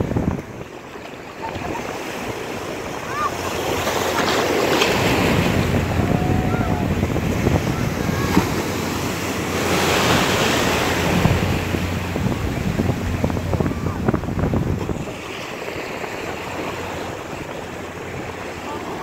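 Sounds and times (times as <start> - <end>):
sea water washing and splashing: 0.0 - 19.0
wind buffeting microphone: 0.0 - 19.0.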